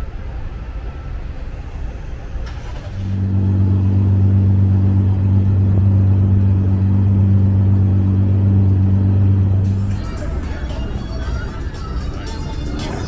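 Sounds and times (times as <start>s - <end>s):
street traffic noise: 0.0s - 13.0s
vehicle engine hum: 0.0s - 13.0s.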